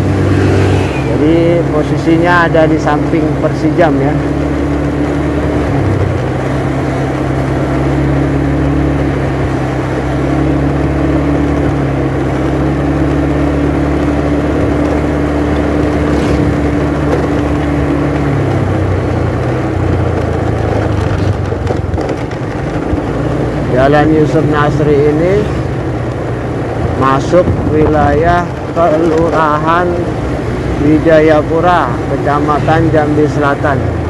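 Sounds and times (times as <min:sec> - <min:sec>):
motorcycle engine running: 0:00.0 - 0:34.0
road noise: 0:00.0 - 0:34.0.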